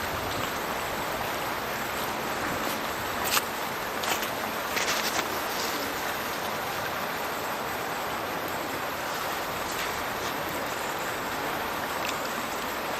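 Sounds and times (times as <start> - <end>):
water pouring and splashing: 0.0 - 12.9.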